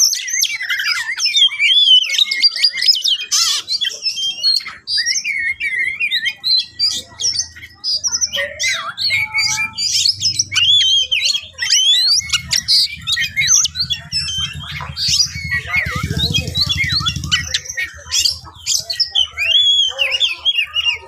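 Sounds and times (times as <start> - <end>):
bird singing whistles and chirps: 0.0 - 21.0.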